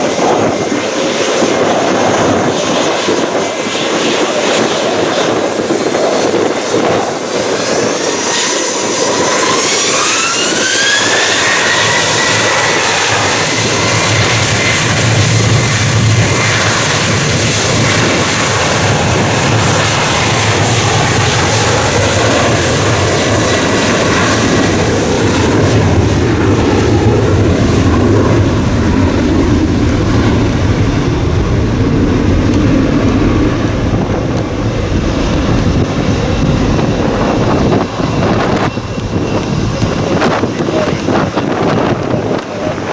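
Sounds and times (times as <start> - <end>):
jet engines whining and roaring: 0.0 - 42.9.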